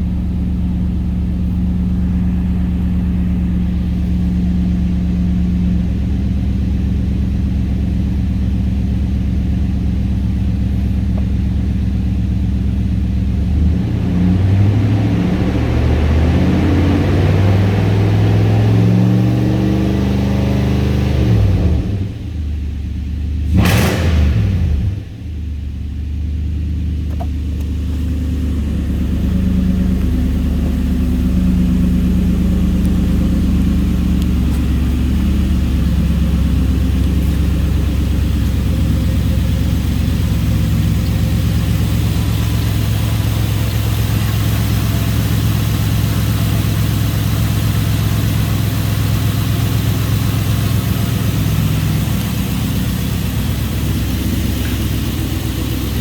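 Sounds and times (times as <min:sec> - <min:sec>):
truck engine idling: 0:00.0 - 0:14.4, 0:25.1 - 0:56.0.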